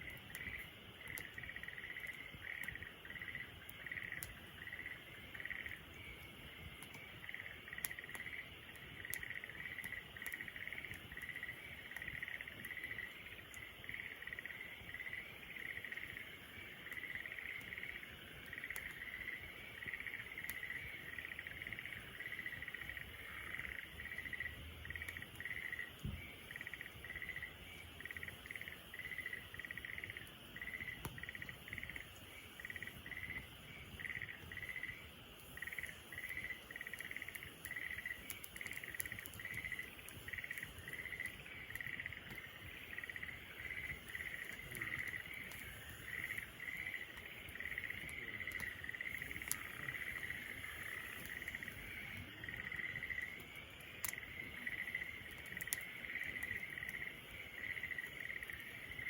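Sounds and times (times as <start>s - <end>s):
insects chirping: 0.0s - 59.0s
wood fire crackles: 0.0s - 59.0s.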